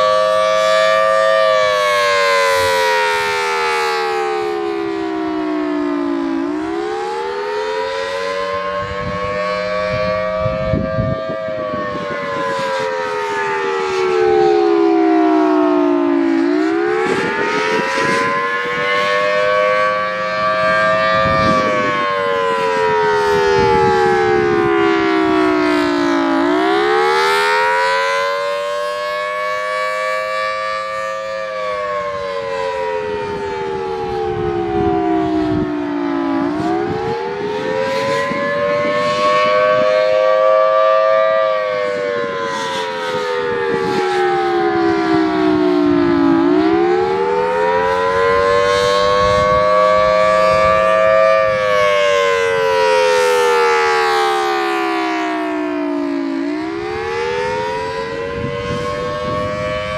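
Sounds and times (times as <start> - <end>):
civil defense siren wailing: 0.0 - 59.9.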